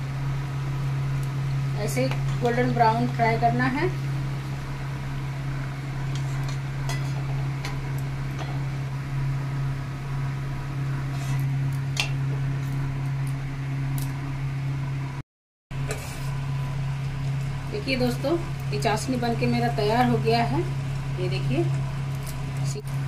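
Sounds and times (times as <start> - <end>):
deep-frying in hot oil: 0.0 - 23.0.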